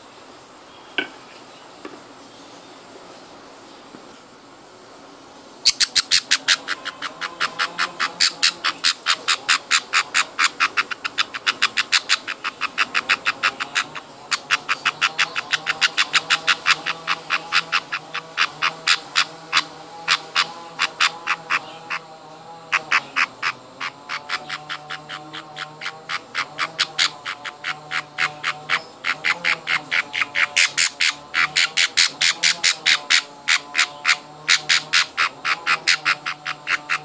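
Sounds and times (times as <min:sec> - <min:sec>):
budgie chick squeaky chirps: 0:05.7 - 0:22.0, 0:22.8 - 0:37.0.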